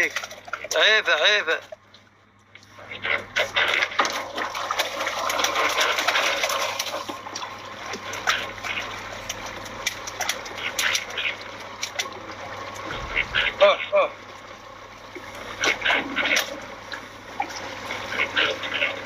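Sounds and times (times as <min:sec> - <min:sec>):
water splashing at boat side: 0:00.0 - 0:02.0, 0:03.1 - 0:19.0
low steady hum: 0:00.0 - 0:19.0.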